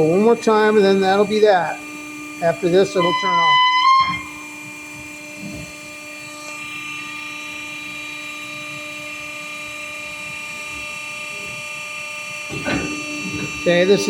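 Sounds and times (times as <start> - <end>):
compactor pump motor whining: 0.0 - 14.0.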